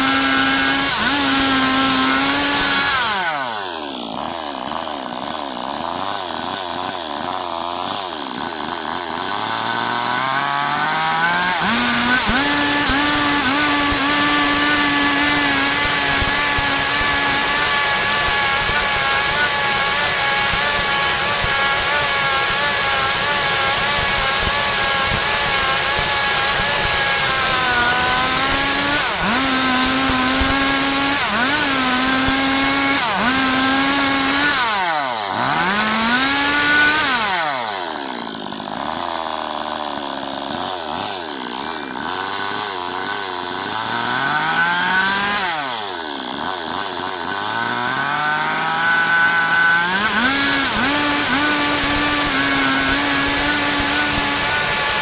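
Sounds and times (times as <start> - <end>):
chainsaw sawing a log: 0.0 - 55.0.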